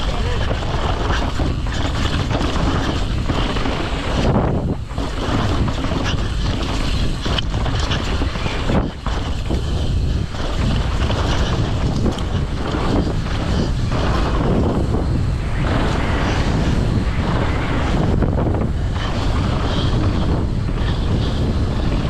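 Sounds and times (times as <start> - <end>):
bike rattling over rough ground: 0.0 - 22.0
wind rush on microphone: 0.0 - 22.0.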